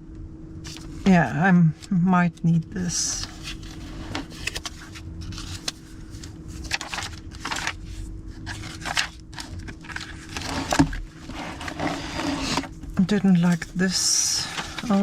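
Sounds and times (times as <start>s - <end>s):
faint steady hum: 0.0s - 15.0s
paper pages rustling: 0.6s - 1.2s, 3.1s - 15.0s.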